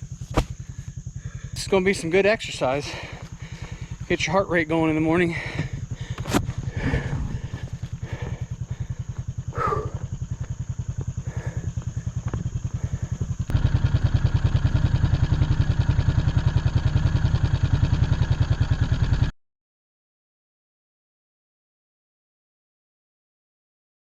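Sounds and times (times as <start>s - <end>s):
atv engine running: 0.0s - 19.3s.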